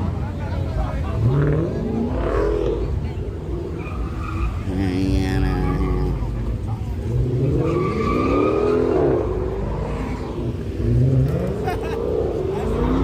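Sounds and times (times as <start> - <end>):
car engine revving: 0.9 - 13.0.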